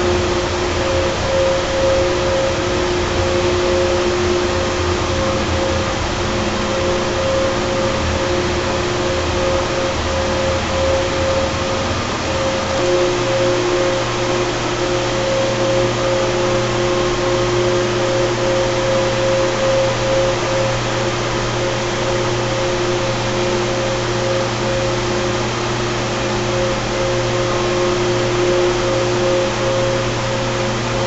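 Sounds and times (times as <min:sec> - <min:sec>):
screw compressors humming: 0:00.0 - 0:31.0
steady whining tones: 0:00.0 - 0:31.0.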